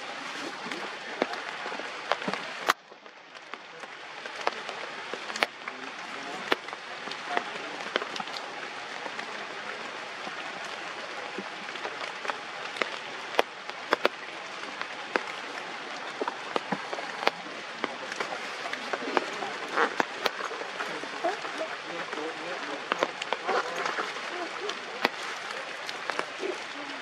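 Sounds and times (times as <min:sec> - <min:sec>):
rain on leaves: 0:00.0 - 0:27.0.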